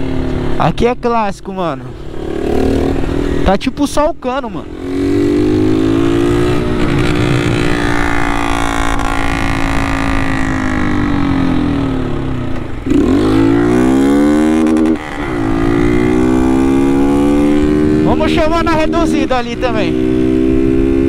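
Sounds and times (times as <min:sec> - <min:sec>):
loud motorcycle engine revving: 0:02.0 - 0:03.6, 0:04.5 - 0:21.0.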